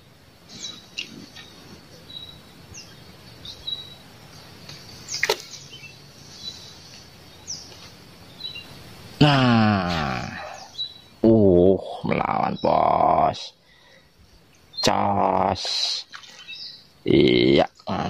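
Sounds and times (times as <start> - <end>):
faint steady hiss: 0.0 - 18.0
small birds chirping: 0.0 - 18.0.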